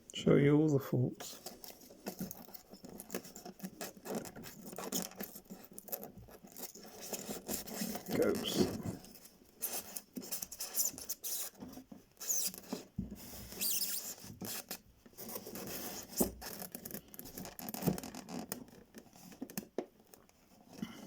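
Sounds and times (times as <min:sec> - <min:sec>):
wires scratching through foam board: 0:01.2 - 0:19.4.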